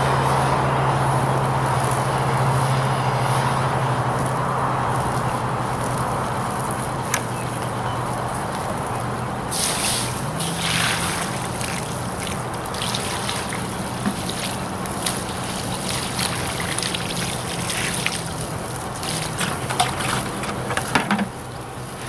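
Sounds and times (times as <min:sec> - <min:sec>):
blower fan humming: 0:00.0 - 0:22.0
water splashing over metal pipe: 0:00.0 - 0:22.0.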